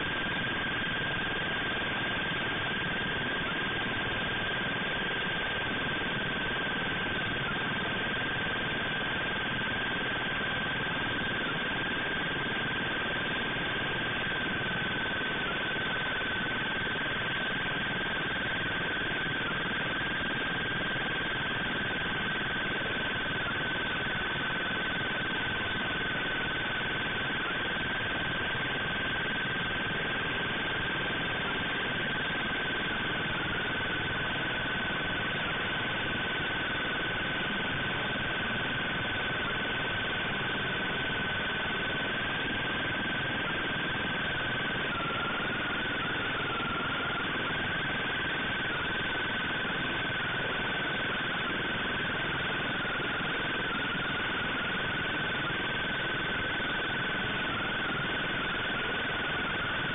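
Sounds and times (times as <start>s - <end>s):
high-pitched whine: 0.0s - 59.9s.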